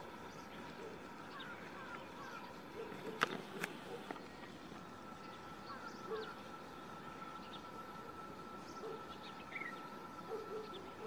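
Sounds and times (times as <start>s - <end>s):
bird calls: 0.0s - 11.0s
steady high-pitched tone: 0.0s - 11.0s.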